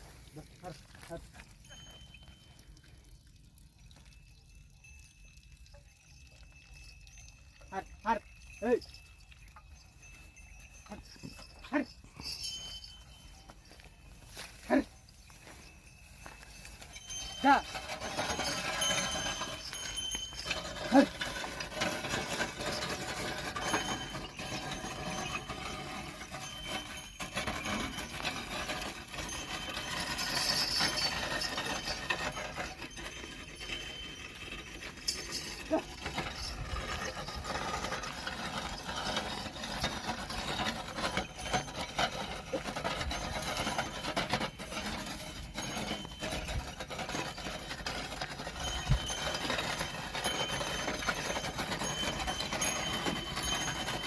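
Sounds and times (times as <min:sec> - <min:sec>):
clicks clinks and knocks: 0:04.0 - 0:54.0.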